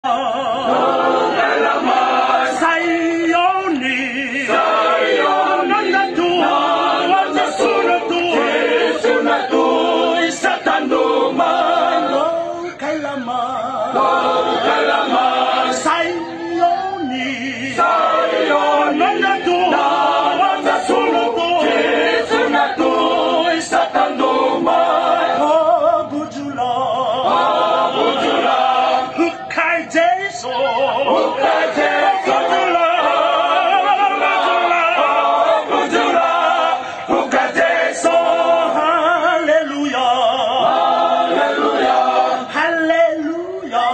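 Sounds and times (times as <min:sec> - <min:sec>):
male choir singing a hymn: 0:00.0 - 0:43.9.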